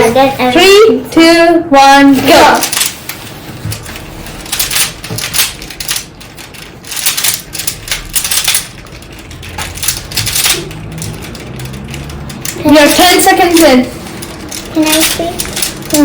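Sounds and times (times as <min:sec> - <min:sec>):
plastic puzzle cube clicking: 0:02.6 - 0:16.0.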